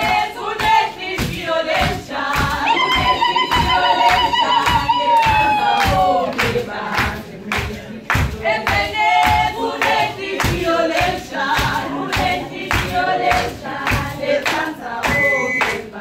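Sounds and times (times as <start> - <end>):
women singing in chorus: 0.0 - 16.0
hand clapping: 0.1 - 15.9.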